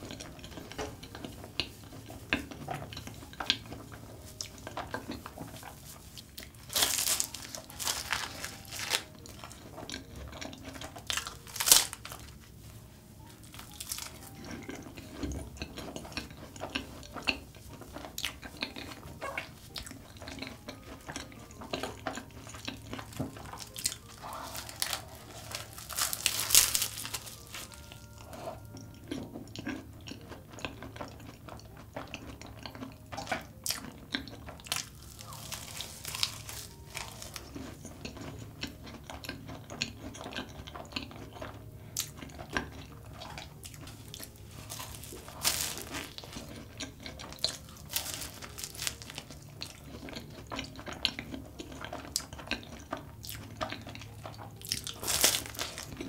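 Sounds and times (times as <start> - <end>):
chewing and biting pastry: 0.0 - 56.0.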